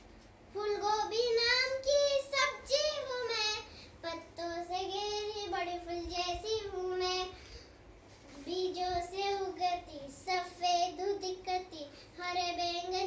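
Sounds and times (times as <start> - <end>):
child singing in high voice: 0.6 - 7.4, 8.3 - 13.0.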